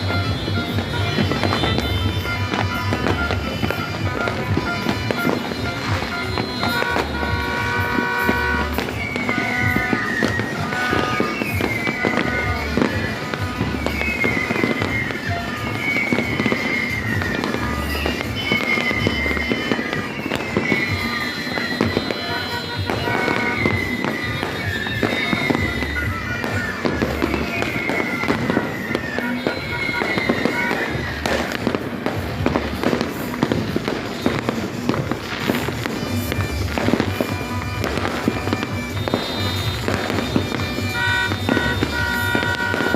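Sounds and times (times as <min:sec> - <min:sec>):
fireworks popping and crackling: 0:00.0 - 0:42.9
music playing: 0:00.0 - 0:42.9.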